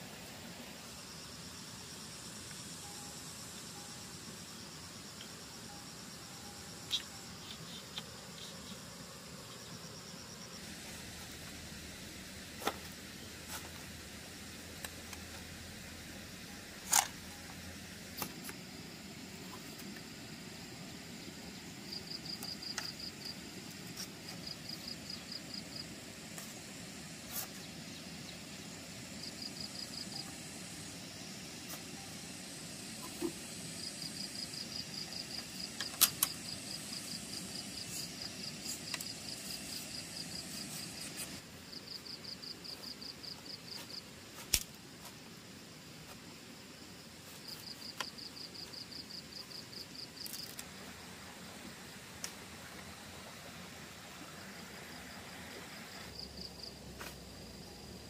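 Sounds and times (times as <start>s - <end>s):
insects chirping in trills: 0.0s - 58.0s.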